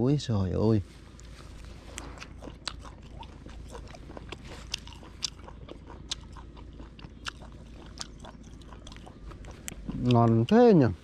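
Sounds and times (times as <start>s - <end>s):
person chewing with clicks: 1.9s - 10.8s.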